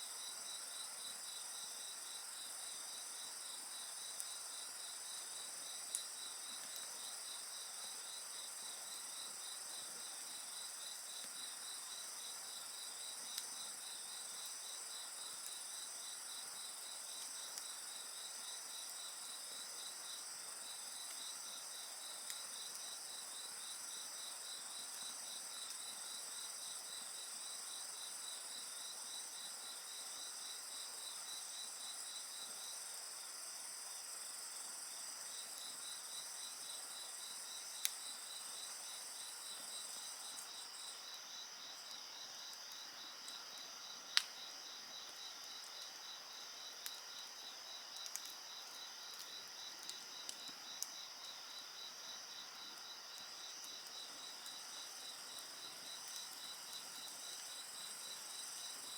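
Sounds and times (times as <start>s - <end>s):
crickets trilling: 0.2s - 58.9s.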